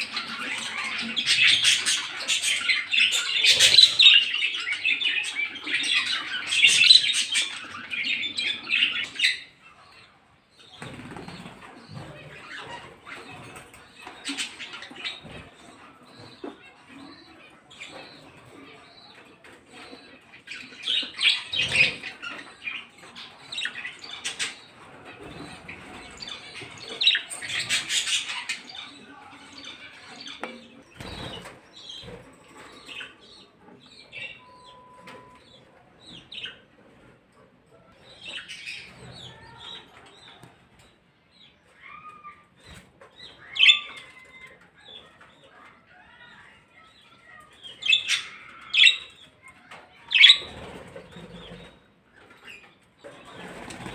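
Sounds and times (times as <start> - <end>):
caged birds chirping and squawking: 0.0 - 53.9.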